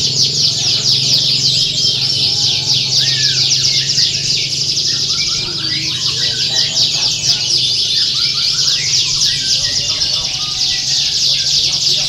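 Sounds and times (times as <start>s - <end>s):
canaries singing trills and chirps: 0.0s - 12.0s.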